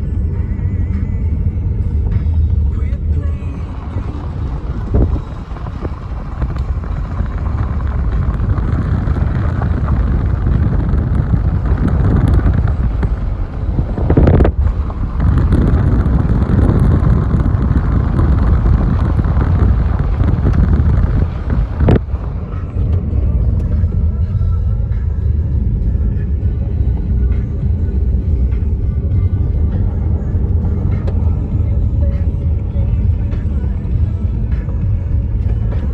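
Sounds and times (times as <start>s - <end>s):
car driving rumble: 0.0s - 35.9s
wind buffeting microphone: 3.5s - 35.9s.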